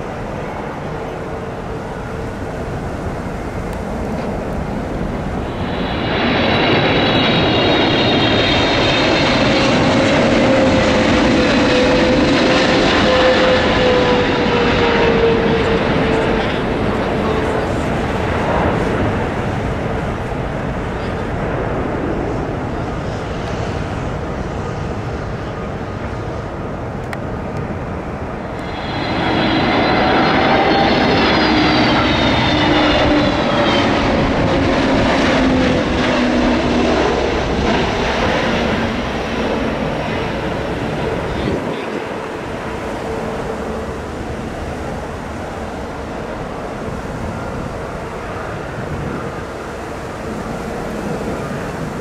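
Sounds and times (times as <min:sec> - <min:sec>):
jet airliner passing: 0:00.0 - 0:52.0.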